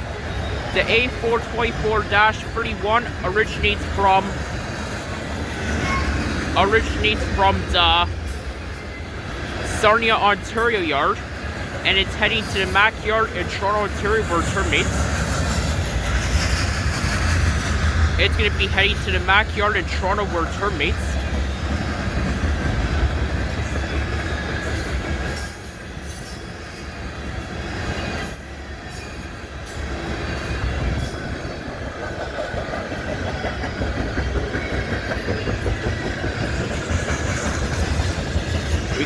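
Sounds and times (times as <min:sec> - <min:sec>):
steel wheels rumbling on rail: 0:00.0 - 0:39.0
wheels clicking over rail joints: 0:00.0 - 0:39.0.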